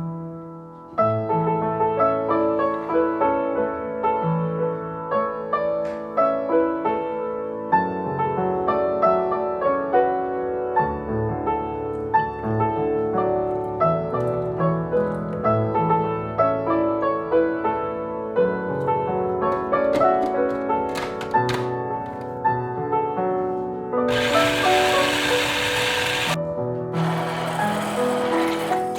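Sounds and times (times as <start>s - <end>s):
solo piano music: 0.0s - 28.9s.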